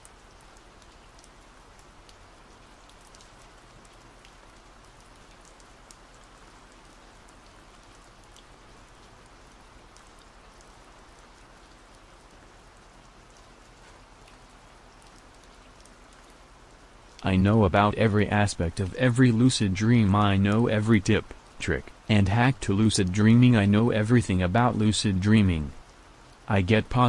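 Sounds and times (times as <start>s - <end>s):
rain hiss: 0.0s - 27.0s
raindrop ticks: 0.0s - 27.0s.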